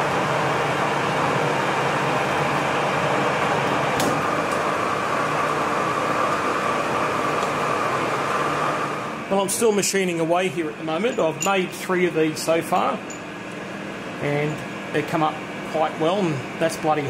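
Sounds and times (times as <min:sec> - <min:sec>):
lathe running: 0:00.0 - 0:17.0.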